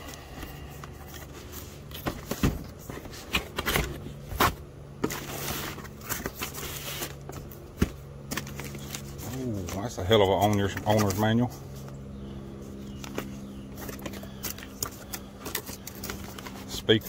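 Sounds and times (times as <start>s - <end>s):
steady low hum: 0.0s - 17.0s
packaging rustling and scraping: 0.1s - 12.0s, 12.6s - 17.0s.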